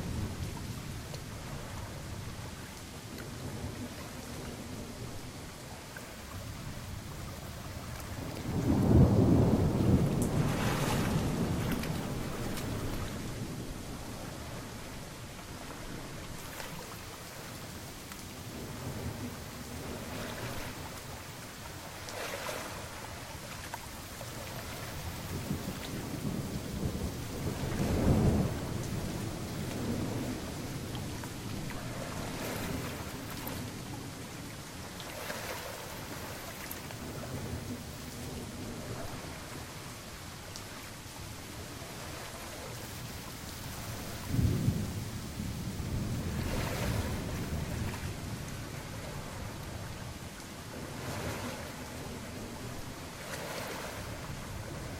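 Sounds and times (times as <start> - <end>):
low rumble of thunder: 0.0 - 54.9
steady rain falling: 0.0 - 54.9.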